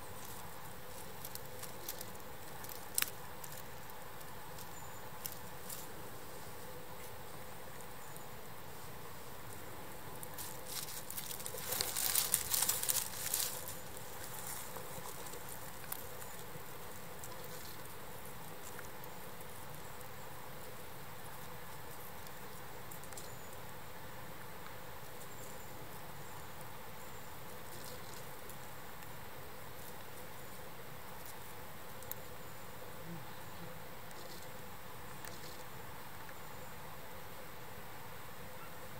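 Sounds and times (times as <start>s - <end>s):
crackling rustle of hand movement: 0.0s - 33.4s, 34.0s - 36.4s
outdoor background hiss: 0.0s - 38.9s.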